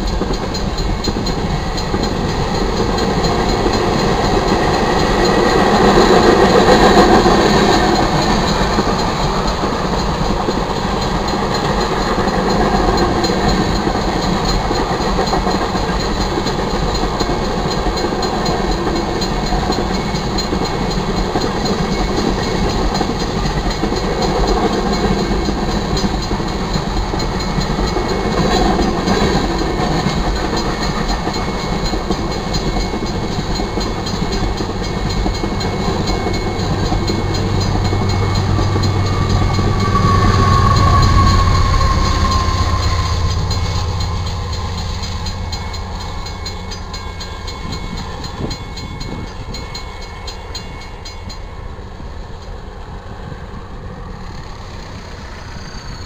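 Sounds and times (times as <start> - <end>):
locomotive engine hum: 0.0 - 56.0
railroad crossing bell ringing: 0.0 - 56.0
train wheels clacking on rail joints: 0.0 - 56.0.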